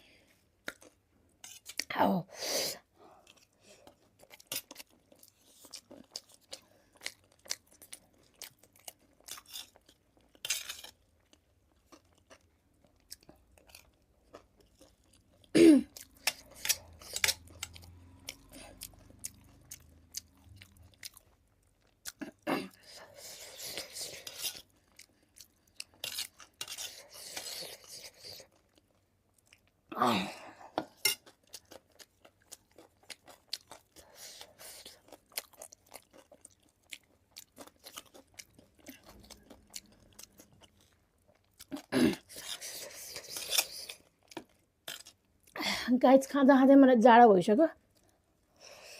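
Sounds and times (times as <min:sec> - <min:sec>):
chewing food: 0:00.3 - 0:01.9, 0:03.1 - 0:29.9, 0:30.6 - 0:45.6.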